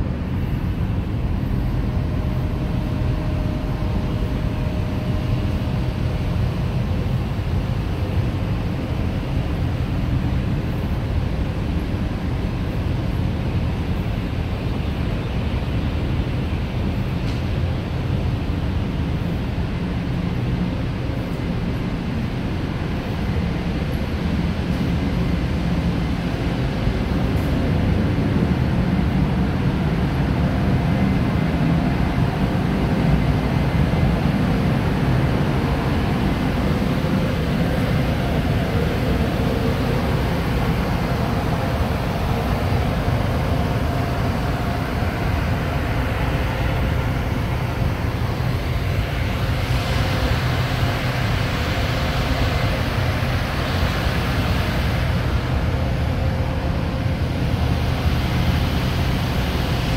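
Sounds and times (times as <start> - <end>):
ship engines and ventilation drone: 0.0 - 59.9.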